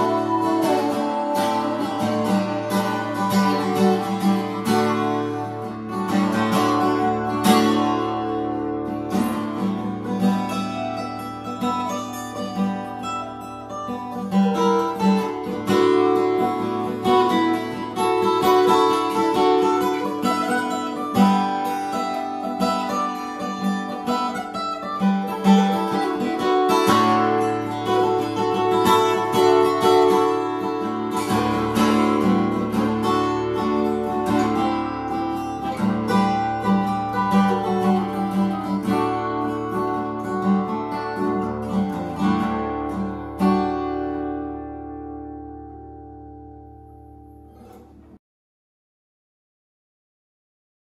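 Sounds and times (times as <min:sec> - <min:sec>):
acoustic guitar strumming and picking: 0:00.0 - 0:48.2.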